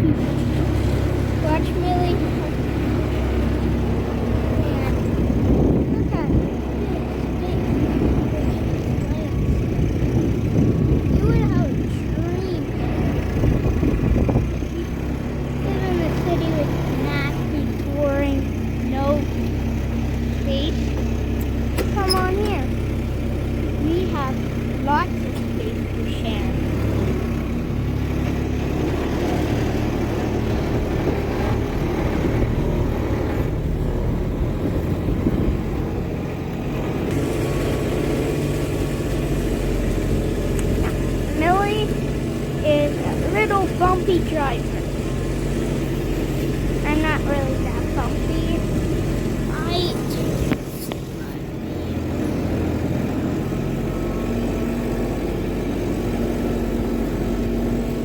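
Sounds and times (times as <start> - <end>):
farm vehicle engine droning: 0.0 - 58.0
road and rattle noise: 0.0 - 58.0.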